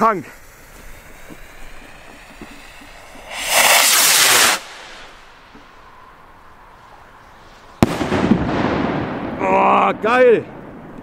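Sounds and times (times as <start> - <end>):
firework rocket whoosh: 0.0 - 9.3.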